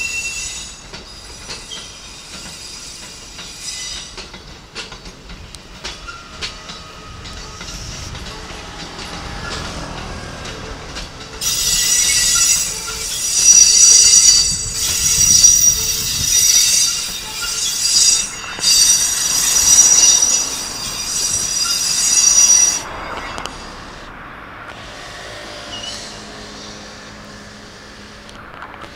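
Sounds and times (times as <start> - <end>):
train wheels squealing: 0.0 - 27.9
low rumble of running train: 0.0 - 28.9.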